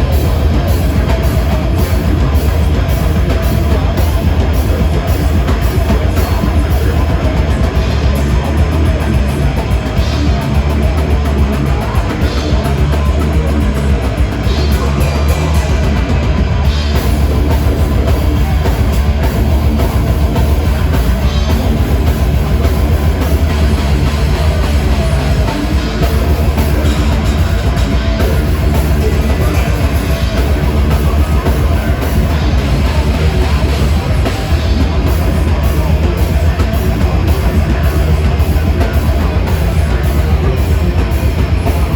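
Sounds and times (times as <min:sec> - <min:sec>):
distorted electric guitars: 0:00.0 - 0:41.9
heavy bass: 0:00.0 - 0:41.9
pounding drum kit: 0:00.0 - 0:41.9.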